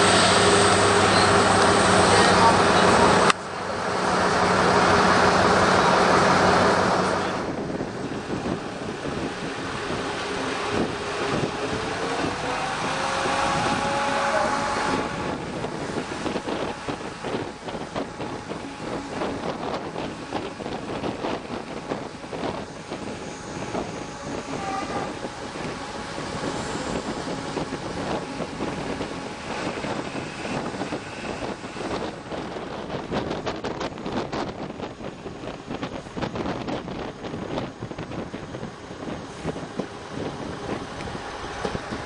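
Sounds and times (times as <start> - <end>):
wind rushing on microphone: 0.0 - 42.0.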